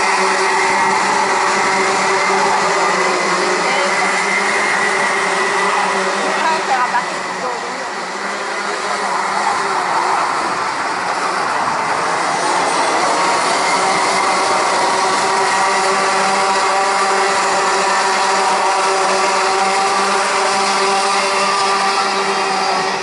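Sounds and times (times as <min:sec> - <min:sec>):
racing karts engines buzzing: 0:00.0 - 0:23.0.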